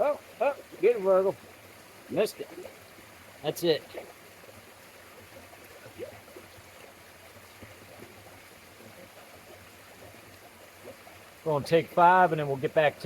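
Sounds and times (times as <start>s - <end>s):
mountain stream running: 0.0s - 13.0s.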